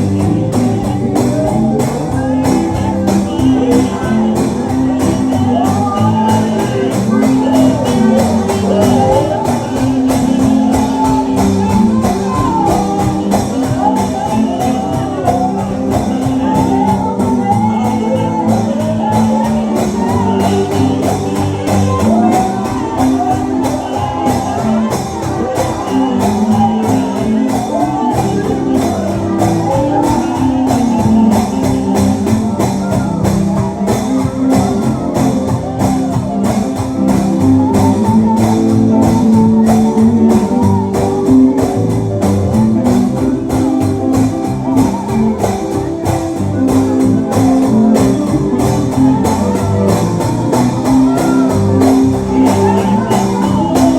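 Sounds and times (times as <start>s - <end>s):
guitar accompaniment: 0.0s - 53.9s
voices singing gospel: 0.0s - 53.9s.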